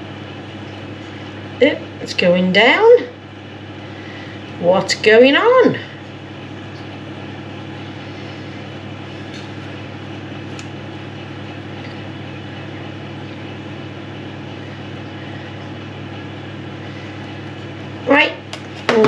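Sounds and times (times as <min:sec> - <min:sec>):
kitchen appliance fan droning: 0:00.0 - 0:19.0.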